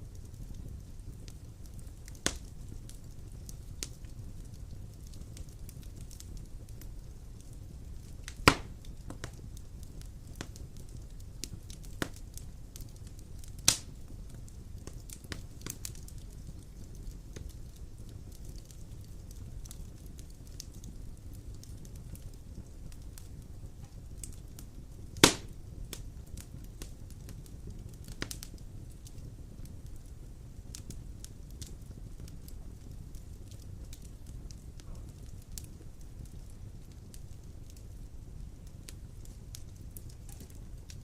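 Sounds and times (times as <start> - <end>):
fire crackling and popping: 0.0 - 41.0
fire flames rumbling: 0.0 - 41.0.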